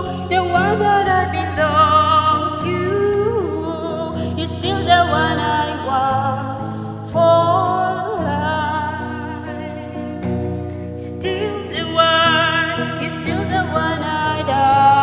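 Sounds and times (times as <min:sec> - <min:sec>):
electric guitar: 0:00.0 - 0:15.0
woman singing a ballad: 0:00.0 - 0:15.0.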